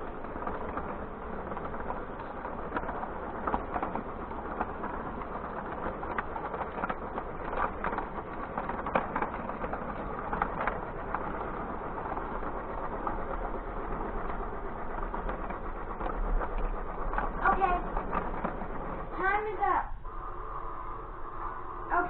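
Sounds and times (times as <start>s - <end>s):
light clicks of train wheels: 0.0s - 20.0s
toy train motor and wheel rumble: 0.0s - 22.0s.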